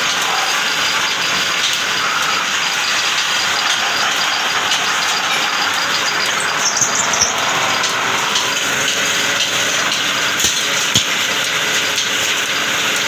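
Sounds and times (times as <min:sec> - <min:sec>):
metal-spinning lathe grinding: 0:00.0 - 0:13.0.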